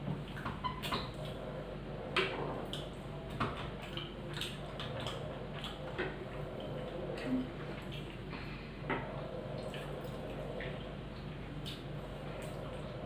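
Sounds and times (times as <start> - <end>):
steady low hum: 0.0 - 13.0
chewing and wet smacks: 2.1 - 13.0.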